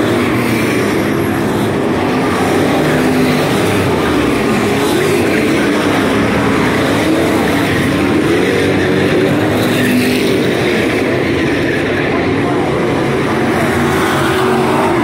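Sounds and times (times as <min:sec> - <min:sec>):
race car engines racing past: 0:00.0 - 0:15.0.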